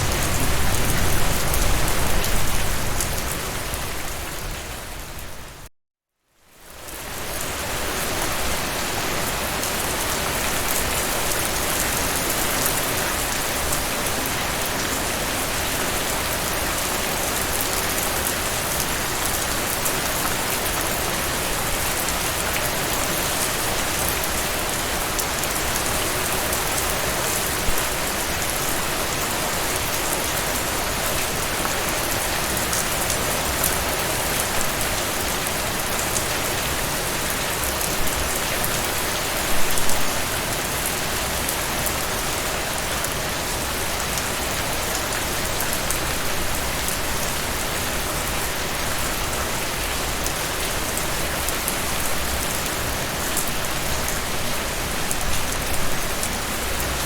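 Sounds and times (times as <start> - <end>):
rain falling: 0.0 - 5.7, 6.4 - 57.0.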